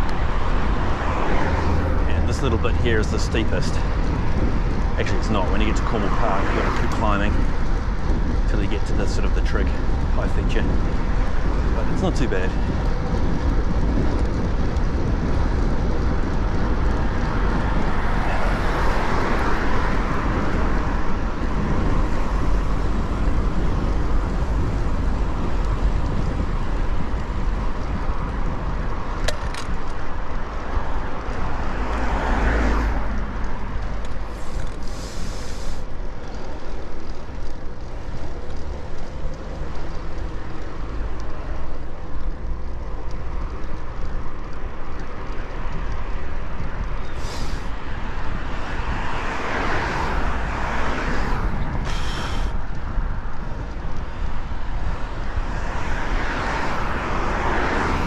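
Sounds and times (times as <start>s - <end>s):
cars passing close by: 0.0s - 58.0s
steady low rumble: 0.0s - 58.0s.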